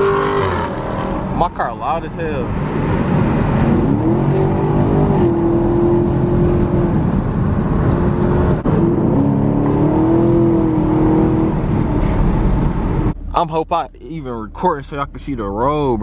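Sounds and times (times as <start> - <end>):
car engine accelerating hard: 0.0 - 13.2.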